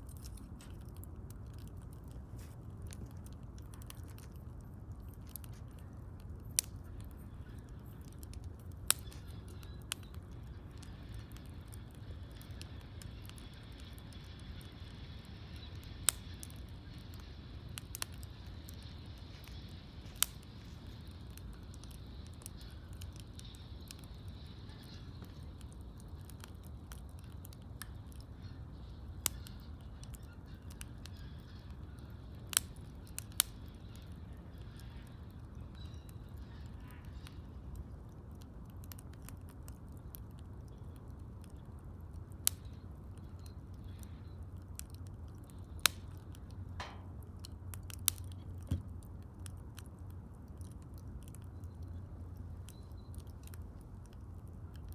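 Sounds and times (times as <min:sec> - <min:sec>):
campfire crackling pops: 0:00.0 - 0:54.9.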